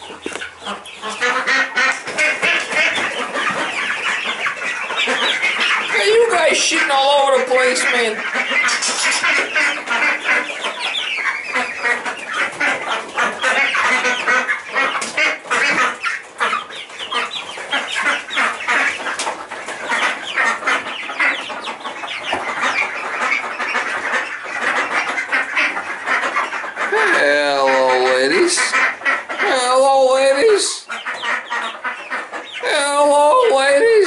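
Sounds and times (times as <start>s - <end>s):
chicks peeping and clucking: 0.0s - 34.0s.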